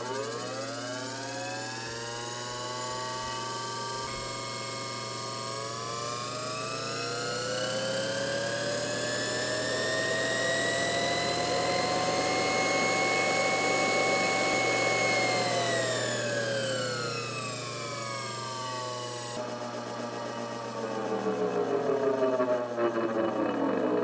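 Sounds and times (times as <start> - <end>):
electric motor whine: 0.0 - 24.0.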